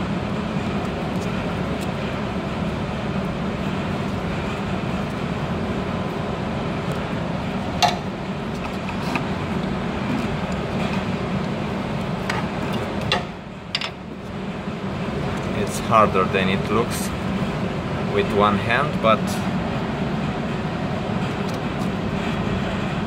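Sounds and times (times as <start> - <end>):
machinery droning: 0.0 - 23.0.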